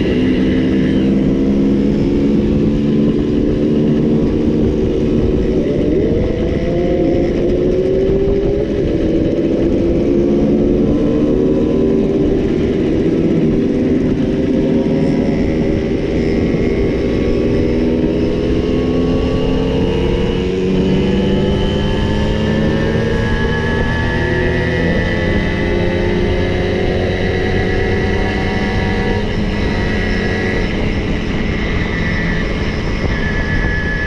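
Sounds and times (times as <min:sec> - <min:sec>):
moped engines revving: 0:00.0 - 0:34.0.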